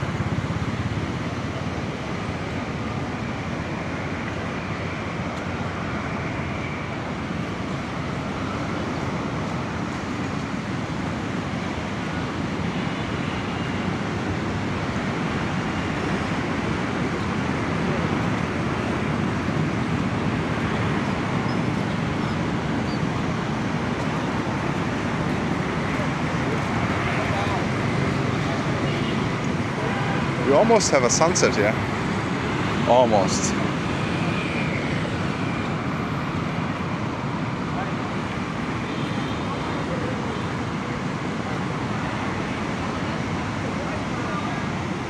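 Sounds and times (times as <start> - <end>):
road traffic: 0.0 - 45.0
wind: 0.0 - 45.0.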